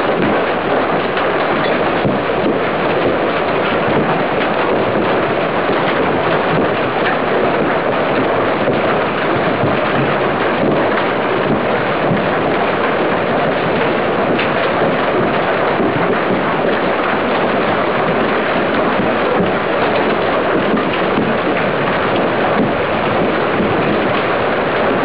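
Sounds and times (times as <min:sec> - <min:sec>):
heavy hail roaring: 0:00.0 - 0:25.0.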